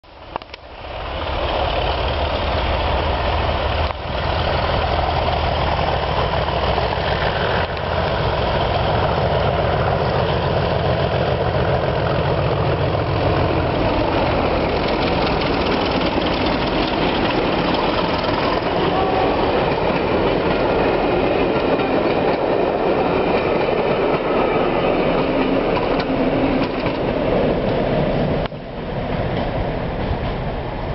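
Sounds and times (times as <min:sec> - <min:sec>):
diesel locomotive engine throb: 0:00.1 - 0:30.9
train rattling past on rails: 0:00.1 - 0:30.9.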